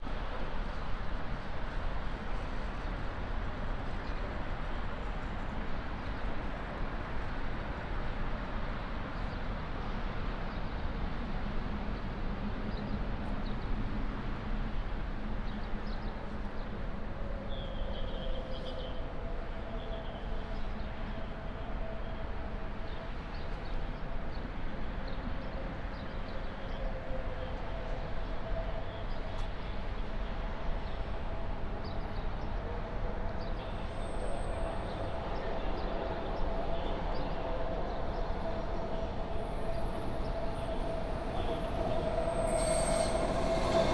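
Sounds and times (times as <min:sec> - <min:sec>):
metro station rumble and hiss: 0:00.0 - 0:43.9.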